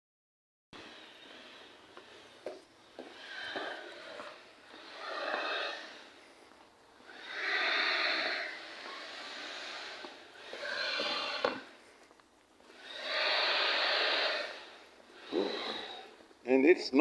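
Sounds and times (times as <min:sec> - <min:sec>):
person breathing heavily: 0:00.8 - 0:16.3.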